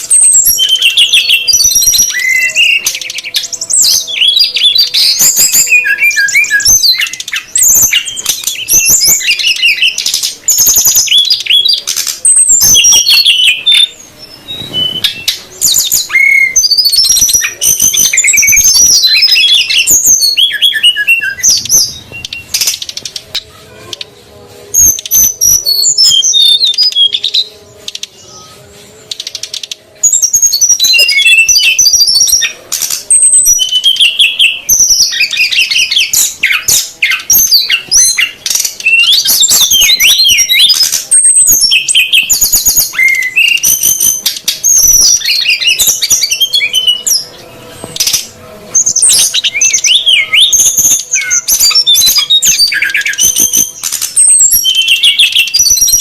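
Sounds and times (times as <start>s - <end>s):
birds chirping and whistling: 0.0s - 56.0s.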